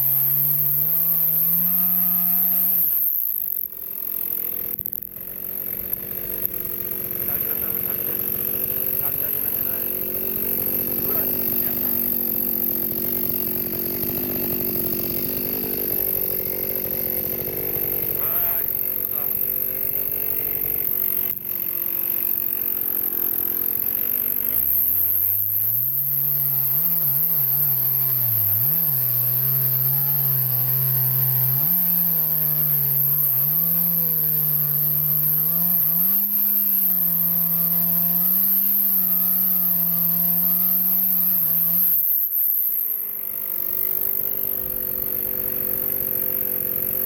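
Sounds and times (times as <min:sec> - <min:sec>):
chainsaw cutting a log: 0:00.0 - 0:47.0.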